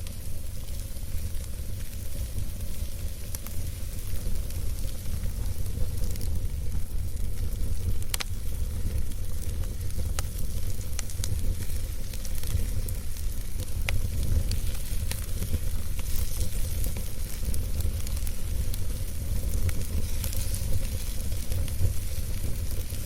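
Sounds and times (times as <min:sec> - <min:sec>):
campfire crackles and pops: 0:00.0 - 0:23.0
low rumble of flames: 0:00.0 - 0:23.0.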